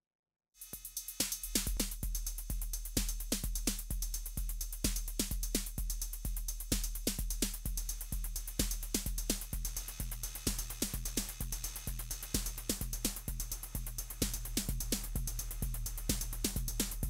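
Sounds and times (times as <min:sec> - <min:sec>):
distorted drum machine beat: 0:00.6 - 0:17.0.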